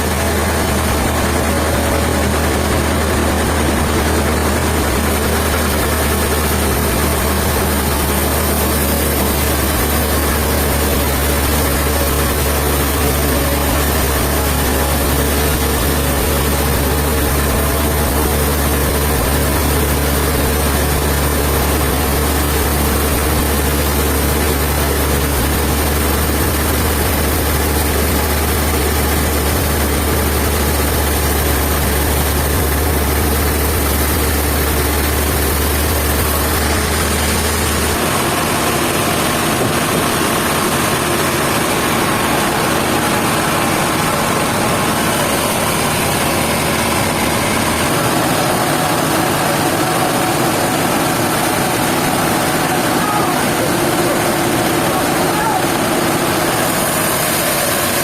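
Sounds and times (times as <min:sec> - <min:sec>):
deep machinery hum: 0:00.0 - 0:58.0
sawmill machinery noise: 0:00.0 - 0:58.0.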